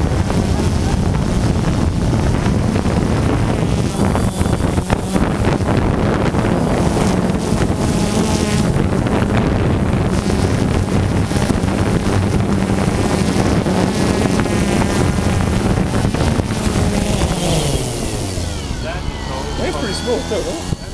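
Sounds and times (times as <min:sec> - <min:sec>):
drone propellers buzzing: 0:00.0 - 0:20.9
wind rushing over microphone: 0:00.0 - 0:20.9.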